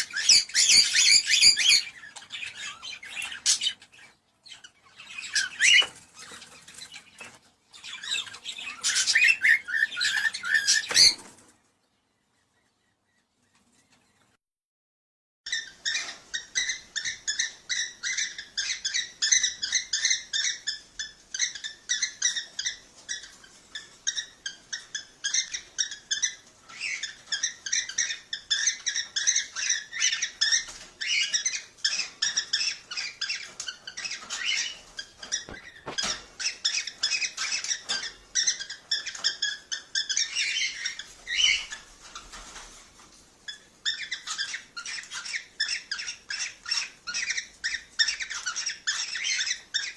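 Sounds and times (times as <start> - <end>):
cockatiels chirping: 0.0 - 11.5, 15.5 - 42.8, 43.4 - 49.9.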